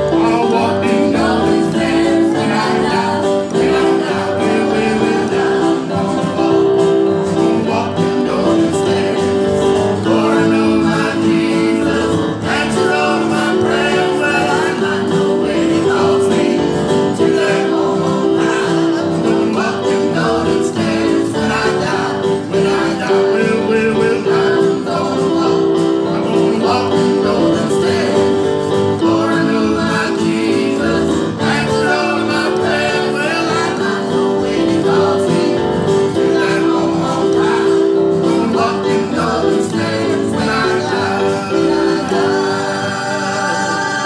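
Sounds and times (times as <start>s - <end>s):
gospel piano music: 0.0s - 44.0s.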